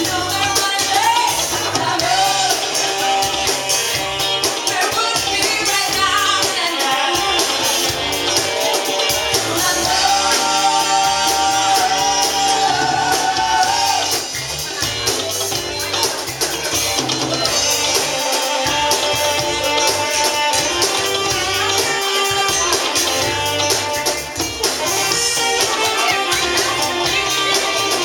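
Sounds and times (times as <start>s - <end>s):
person singing: 0.0s - 3.9s, 4.5s - 14.3s, 17.2s - 28.0s
bass guitar: 0.0s - 28.0s
drums: 0.0s - 28.0s.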